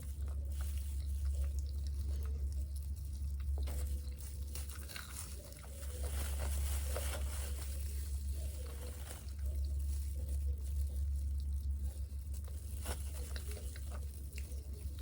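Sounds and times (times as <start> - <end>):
chewing crunches: 0.0 - 15.0
steady low hum: 0.0 - 15.0.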